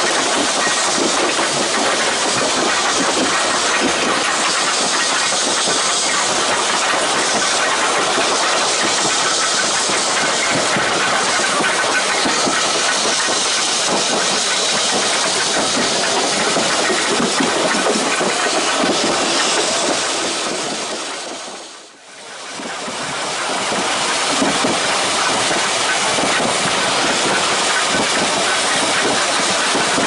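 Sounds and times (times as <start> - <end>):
tram wheels rolling on rail: 0.0 - 30.0.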